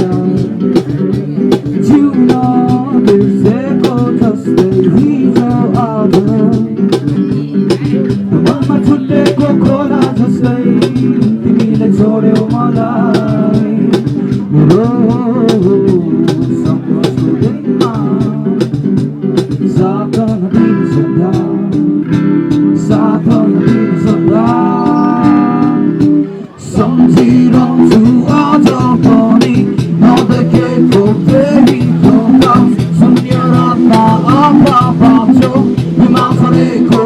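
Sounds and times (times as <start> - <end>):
person singing: 0.0 - 18.8, 19.6 - 22.1, 22.7 - 37.0
guitar: 0.0 - 37.0
steady drum beat: 0.0 - 37.0.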